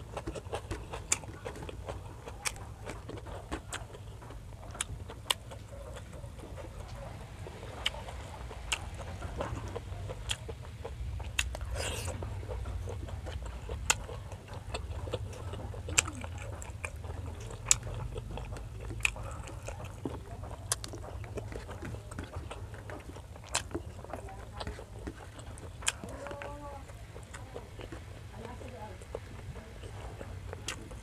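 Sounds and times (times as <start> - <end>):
chewing and wet mouth clicks: 0.0 - 31.0
steady low hum: 0.0 - 31.0.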